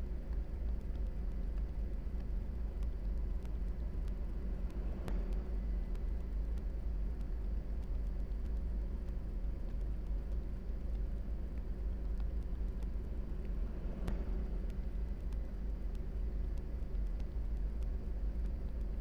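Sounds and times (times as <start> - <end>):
faint ticks: 0.0 - 19.0.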